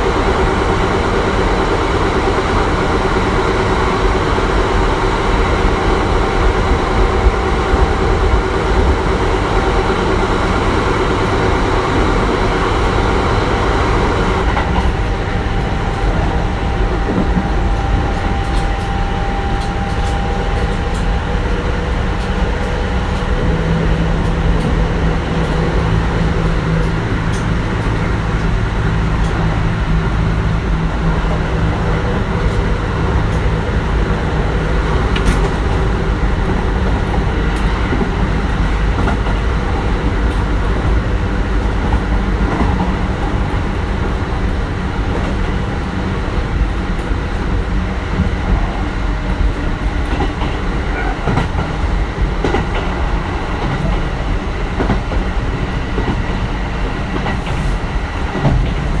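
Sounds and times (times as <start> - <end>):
rail joint clicks: 0.0 - 59.0
train wheels rumbling on rail: 0.0 - 59.0.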